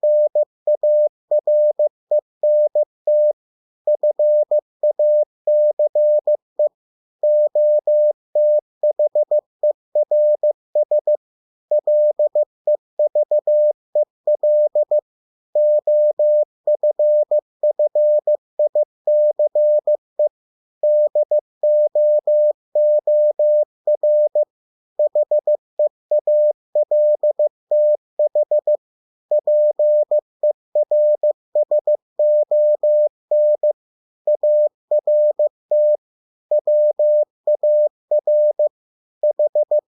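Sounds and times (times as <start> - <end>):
morse code beeps: 0.0 - 9.4, 10.0 - 12.4, 13.0 - 13.7, 14.3 - 15.0, 15.6 - 39.8.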